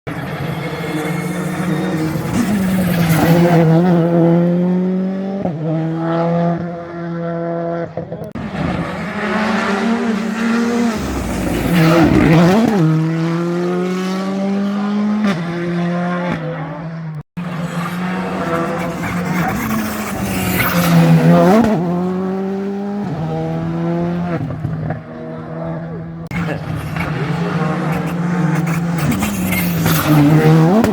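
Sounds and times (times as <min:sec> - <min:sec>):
rally car engine accelerating: 0:00.1 - 0:30.9.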